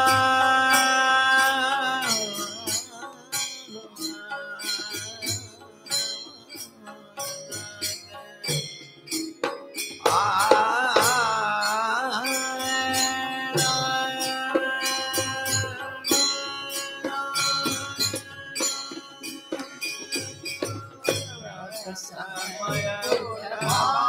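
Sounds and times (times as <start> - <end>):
person singing devotional song: 0.0 - 8.6, 10.0 - 24.0
string instrument: 0.0 - 24.0.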